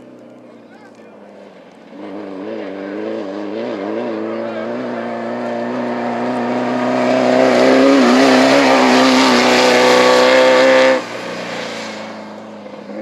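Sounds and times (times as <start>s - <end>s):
race car engine at high revs: 1.2s - 13.0s.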